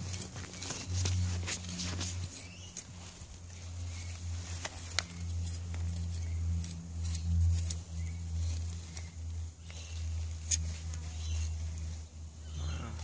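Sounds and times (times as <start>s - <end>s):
trowel scraping in soil: 0.0s - 11.9s
steady low hum: 0.0s - 13.0s.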